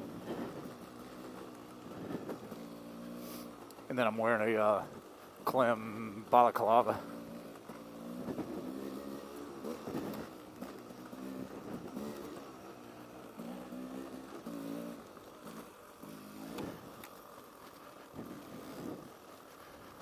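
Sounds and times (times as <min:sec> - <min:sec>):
off-road motorcycle engine revving: 0:00.0 - 0:20.0.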